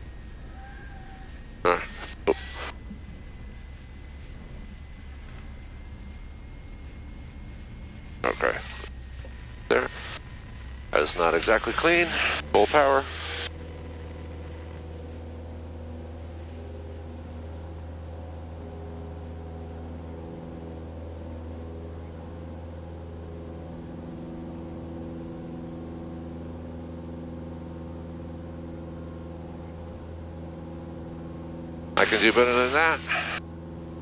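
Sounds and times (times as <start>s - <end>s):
aircraft engine and propeller: 0.0s - 34.0s
faint high whine: 0.0s - 34.0s.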